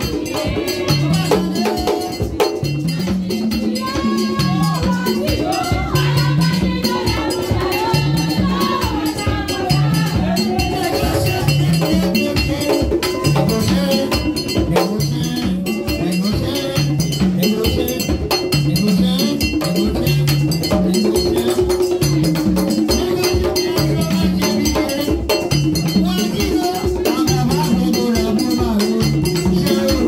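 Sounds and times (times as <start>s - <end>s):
hand drums driving rhythm: 0.0s - 30.0s
ringing metal bell beat: 0.0s - 30.0s.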